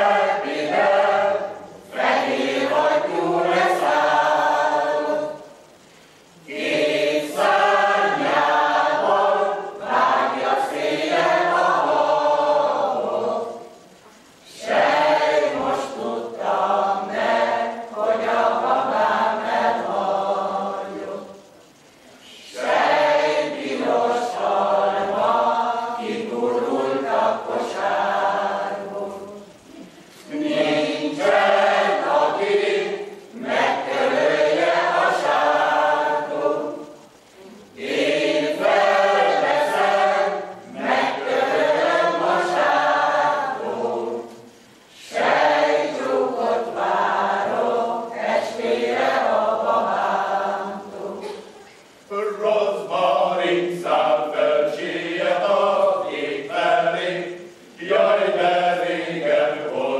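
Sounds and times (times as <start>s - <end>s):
mixed choir singing unaccompanied: 0.0s - 59.9s.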